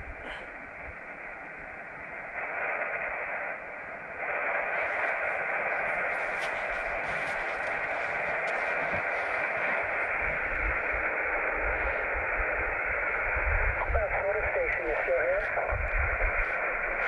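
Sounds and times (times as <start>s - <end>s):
radio speaker hissing: 0.0s - 17.0s.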